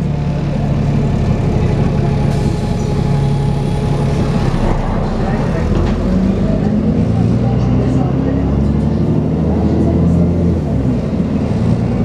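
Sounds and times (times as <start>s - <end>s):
bus engine running: 0.0s - 12.0s.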